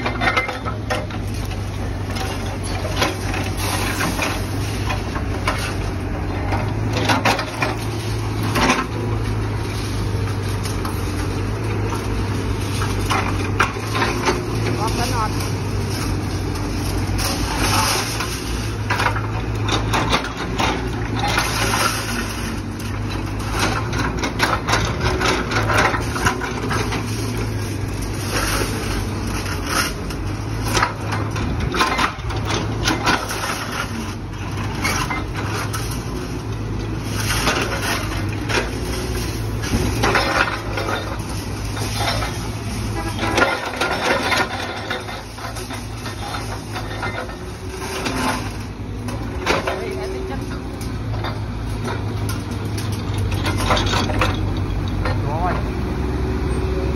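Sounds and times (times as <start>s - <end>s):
rubble falling: 0.0s - 55.2s
concrete cracking and crunching: 0.0s - 55.6s
diesel engine running: 0.0s - 56.9s.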